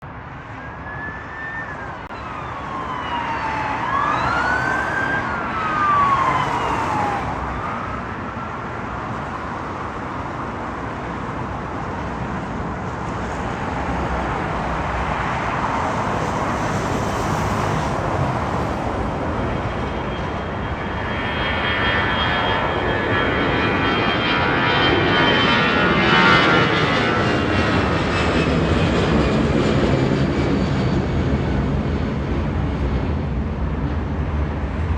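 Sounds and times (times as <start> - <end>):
aircraft engines running: 0.0 - 34.9
turbine whine: 0.1 - 34.9
aircraft engine rumble: 2.8 - 34.9.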